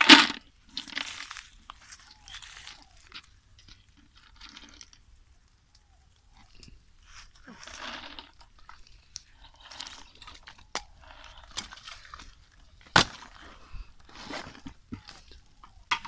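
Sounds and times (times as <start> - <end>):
rustling and crunching: 0.0 - 16.0.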